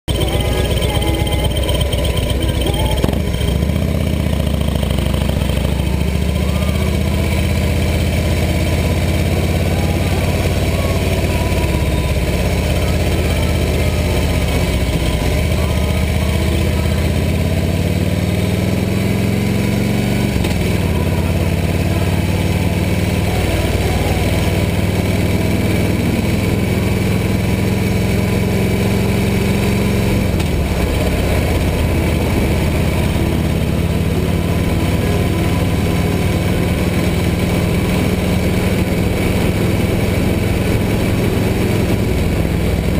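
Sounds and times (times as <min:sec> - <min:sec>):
motorcycle engine running: 0:00.0 - 0:42.9
wind and road noise: 0:02.6 - 0:42.9.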